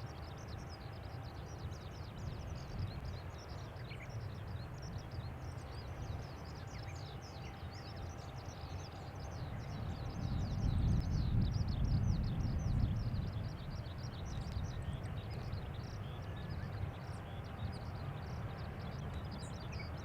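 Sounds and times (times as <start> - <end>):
distant jet engine rumble: 0.0 - 20.0
birds chirping: 0.2 - 20.0.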